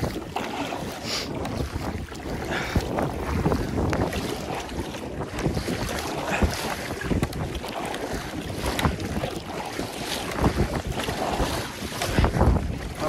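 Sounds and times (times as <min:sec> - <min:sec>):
water lapping against kayak: 0:00.0 - 0:13.0
wind buffeting microphone: 0:00.0 - 0:13.0.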